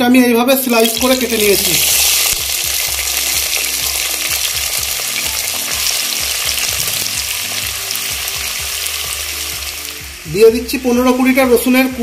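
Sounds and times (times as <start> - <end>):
onions sizzling in hot oil: 0.6 - 12.0.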